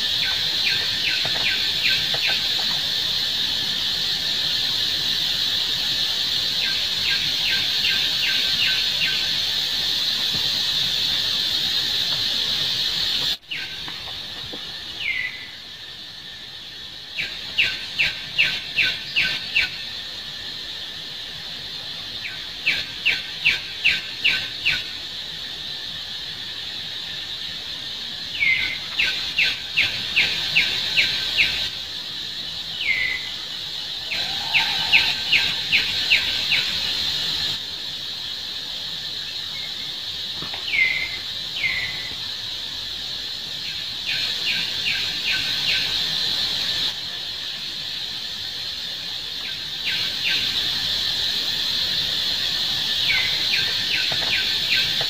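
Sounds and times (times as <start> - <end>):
steady high background hum: 0.0 - 55.0.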